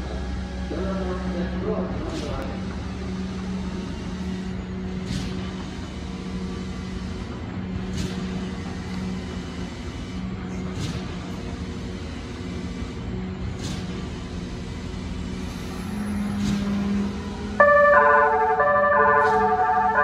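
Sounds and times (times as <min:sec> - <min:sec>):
electric train humming: 0:00.0 - 0:20.0.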